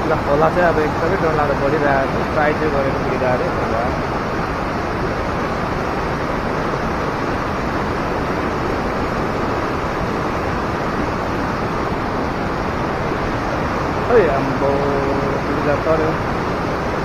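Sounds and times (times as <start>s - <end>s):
river rushing loudly: 0.0s - 17.0s.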